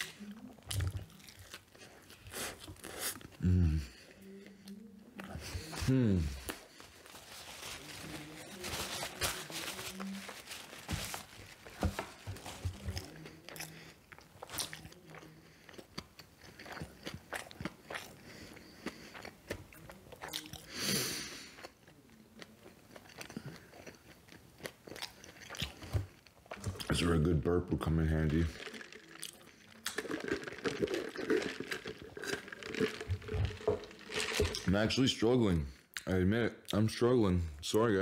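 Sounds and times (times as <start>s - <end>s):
chewing and crunching: 0.0s - 35.1s.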